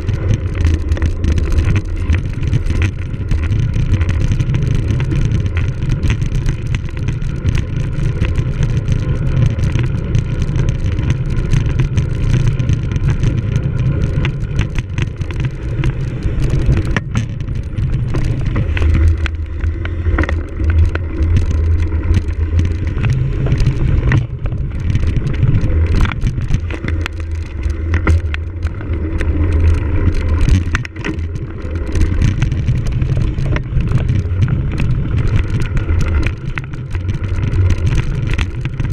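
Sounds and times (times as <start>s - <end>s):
bike rattling and clicking: 0.0s - 38.9s.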